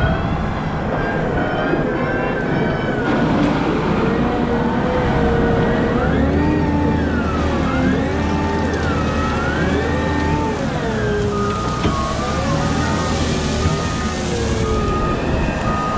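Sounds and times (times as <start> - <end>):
wheel loader engine humming: 0.0 - 15.9
whining tones rising and falling: 0.0 - 15.9.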